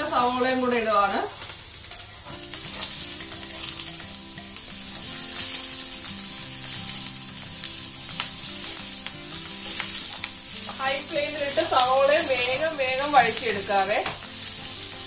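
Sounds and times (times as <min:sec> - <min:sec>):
onions sizzling in oil: 0:00.0 - 0:15.0
spatula scraping a pan: 0:01.9 - 0:15.0.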